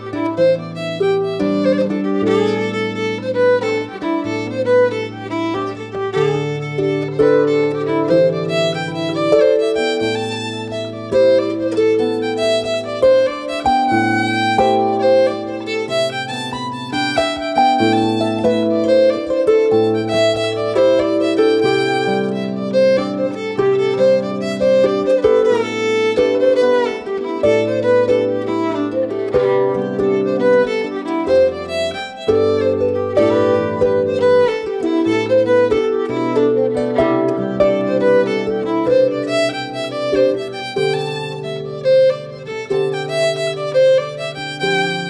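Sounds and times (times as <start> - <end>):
fiddle playing a tune: 0.0 - 45.0.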